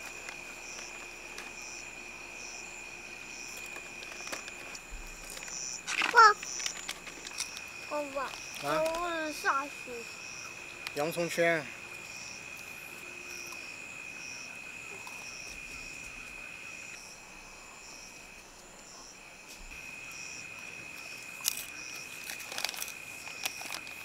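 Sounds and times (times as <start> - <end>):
insect chirping: 0.0 - 24.0
insect high-pitched trill: 0.0 - 24.0.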